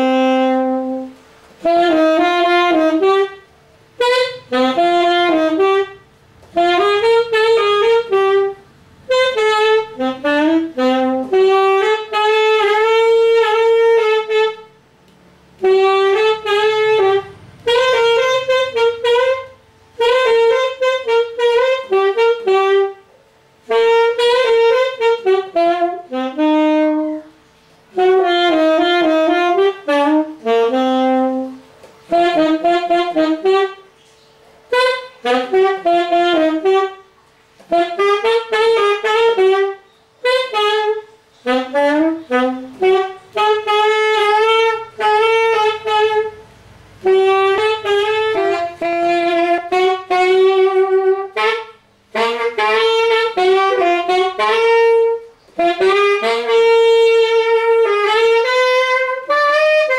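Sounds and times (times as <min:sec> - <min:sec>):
alto saxophone melody: 0:00.0 - 0:59.9.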